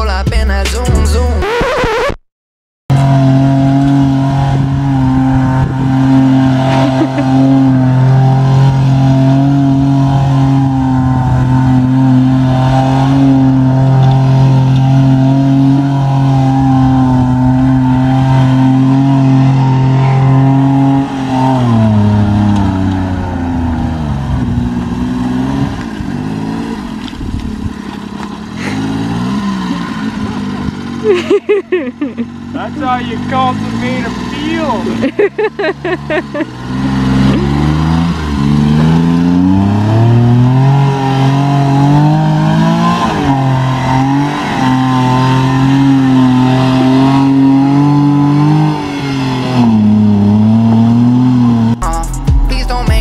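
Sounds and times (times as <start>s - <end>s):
small truck engine revving: 2.9s - 52.3s.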